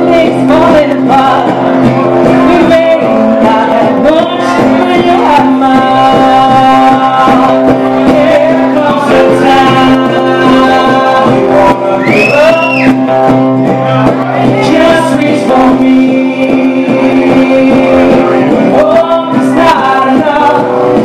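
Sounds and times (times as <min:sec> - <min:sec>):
woman singing: 0:00.0 - 0:12.9, 0:14.3 - 0:21.0
acoustic guitar strumming: 0:00.0 - 0:21.0.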